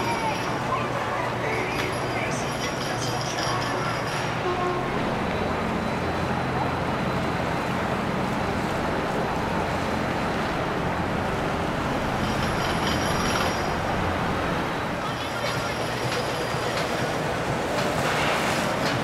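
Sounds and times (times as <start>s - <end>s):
boat engines humming: 0.0s - 19.0s.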